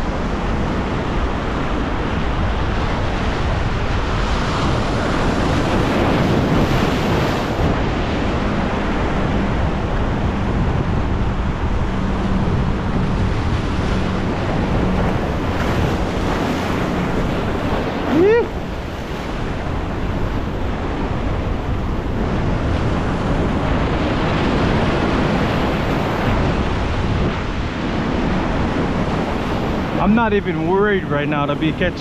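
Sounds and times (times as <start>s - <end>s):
ocean surf washing ashore: 0.0s - 32.0s
wind on microphone: 0.0s - 32.0s.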